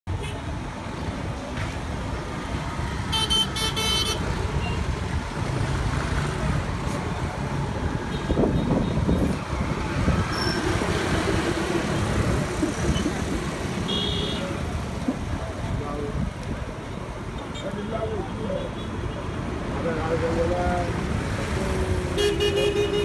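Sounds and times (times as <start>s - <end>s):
motor vehicles running: 0.1s - 23.0s.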